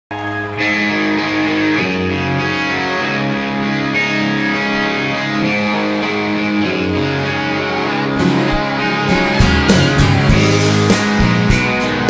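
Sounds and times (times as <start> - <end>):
electric guitar chords: 0.1 - 12.0.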